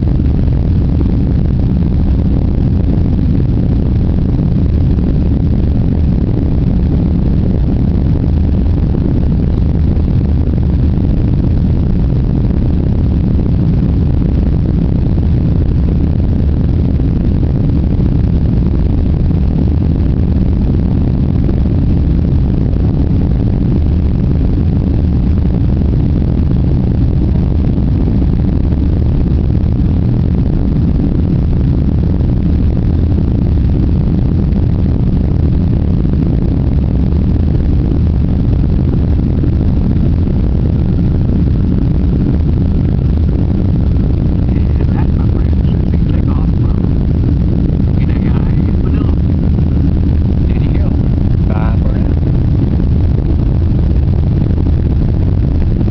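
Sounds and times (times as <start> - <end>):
jet engines low rumble: 0.0 - 55.9.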